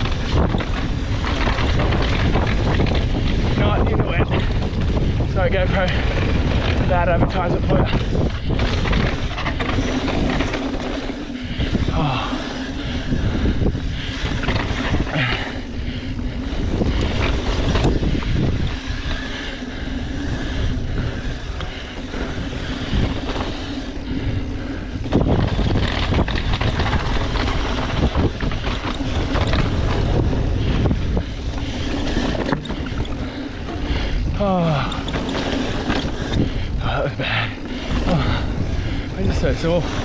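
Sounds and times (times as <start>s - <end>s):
bike knocks and clatters: 0.0s - 40.0s
bike tyres rolling on dirt: 0.0s - 40.0s
wind buffeting microphone: 0.0s - 40.0s.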